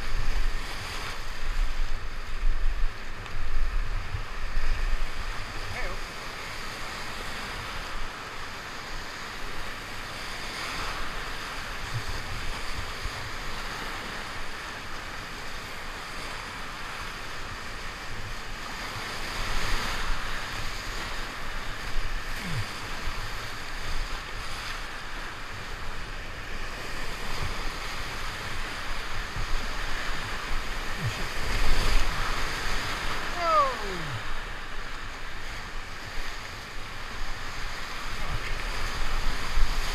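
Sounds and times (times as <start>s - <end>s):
rushing whitewater: 0.0s - 39.9s.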